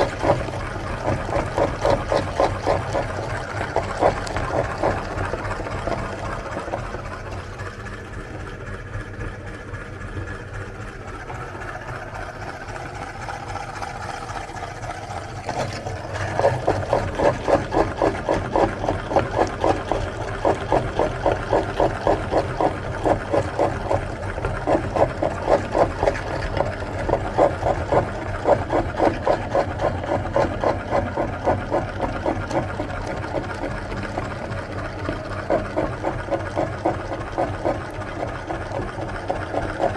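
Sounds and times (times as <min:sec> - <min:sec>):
meat grinder running: 0:00.0 - 0:39.9.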